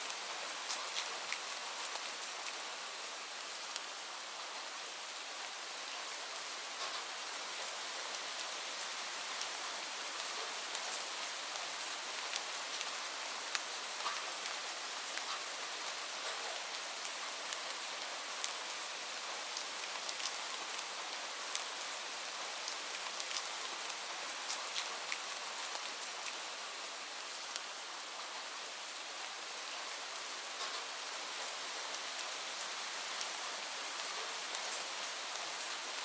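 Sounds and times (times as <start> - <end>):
rain falling on leaves: 0.0 - 36.0.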